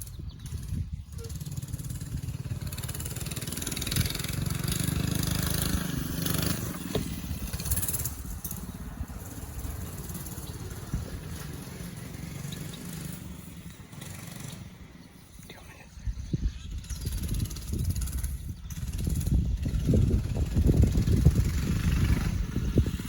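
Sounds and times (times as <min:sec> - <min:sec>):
motorbike engine running: 0:00.0 - 0:15.1, 0:16.4 - 0:23.0.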